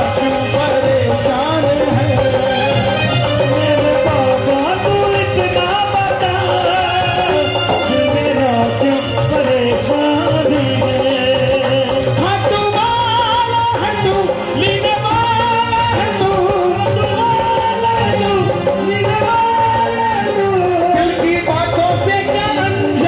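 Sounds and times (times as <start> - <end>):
band playing: 0.0 - 23.0
steady percussion beat: 0.0 - 23.0.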